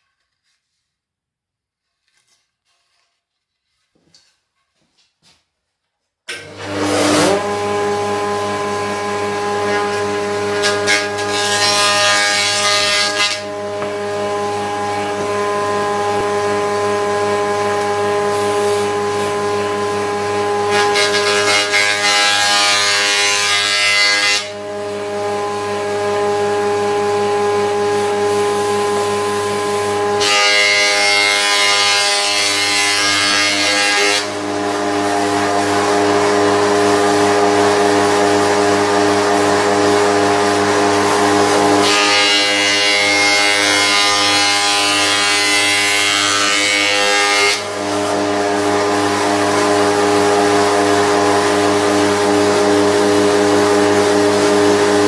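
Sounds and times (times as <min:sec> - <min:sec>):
board cutting rush: 0:06.3 - 0:55.0
jointer humming: 0:06.3 - 0:55.0.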